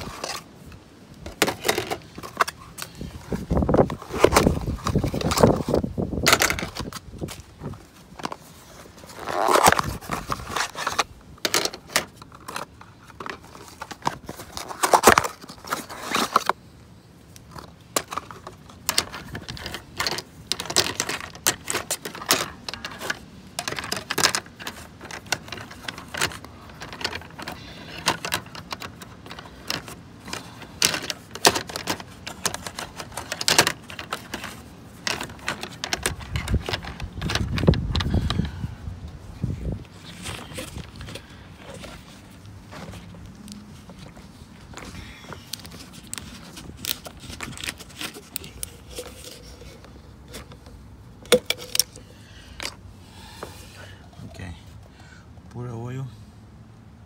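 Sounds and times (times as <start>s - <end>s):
metal parts and tools clinking: 1.2s - 8.4s, 9.0s - 16.5s, 17.5s - 38.4s, 40.0s - 52.8s.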